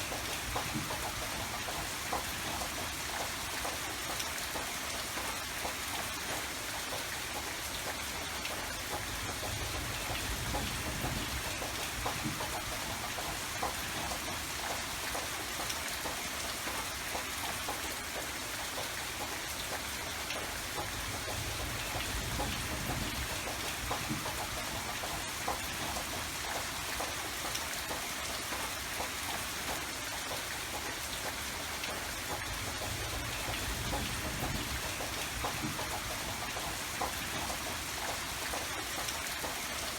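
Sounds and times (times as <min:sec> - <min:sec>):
rain falling: 0:00.0 - 0:39.9
raindrops ticking: 0:00.0 - 0:39.9.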